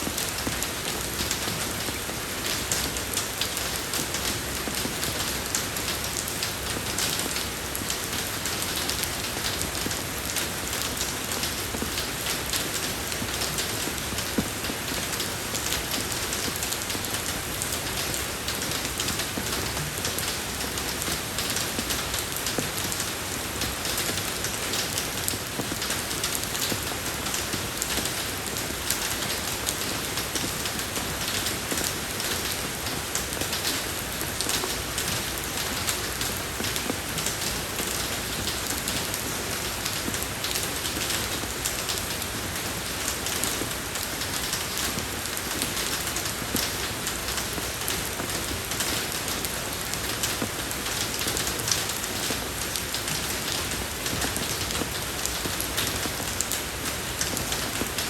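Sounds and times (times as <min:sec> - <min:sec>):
rain falling on a road: 0:00.0 - 0:58.0.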